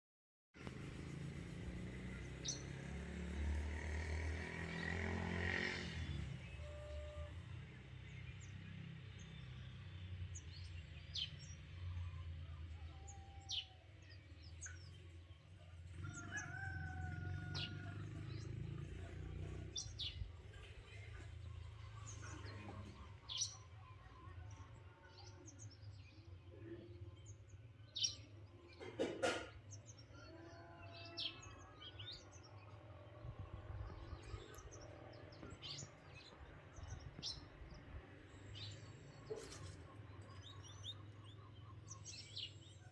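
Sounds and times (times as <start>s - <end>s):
birds chirping: 6.0s - 42.9s.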